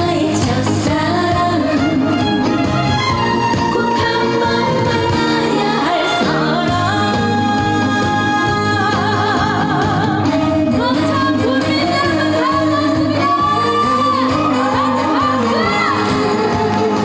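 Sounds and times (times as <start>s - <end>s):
woman singing: 0.0s - 2.5s, 3.6s - 17.0s
band backing: 0.0s - 17.0s.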